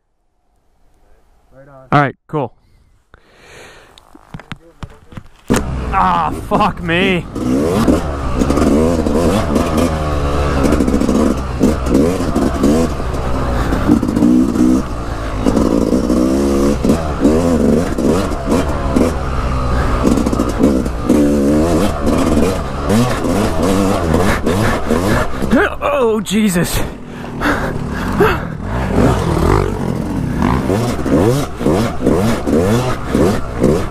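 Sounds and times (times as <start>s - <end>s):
dirt bike engine revving: 5.5s - 33.9s.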